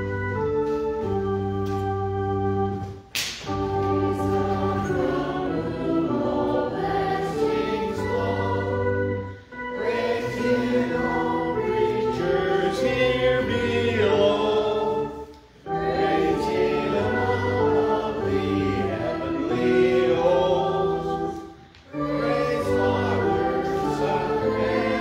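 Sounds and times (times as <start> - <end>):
group singing a hymn: 3.5 - 25.0.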